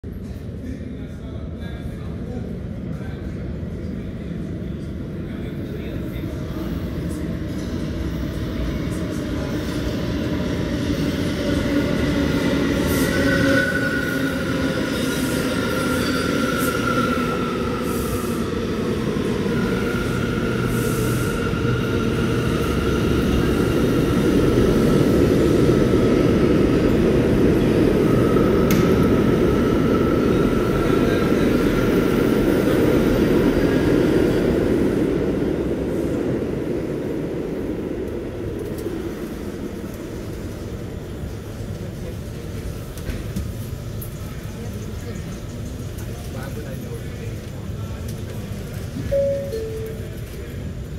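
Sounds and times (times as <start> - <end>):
train rumbling through station: 0.0 - 50.9.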